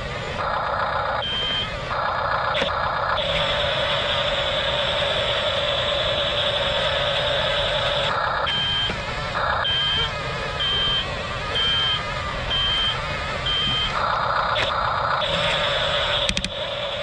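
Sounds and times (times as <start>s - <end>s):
toy electric drive and gear noise: 0.3s - 17.0s
high reversing beep: 1.2s - 1.8s, 2.6s - 17.0s.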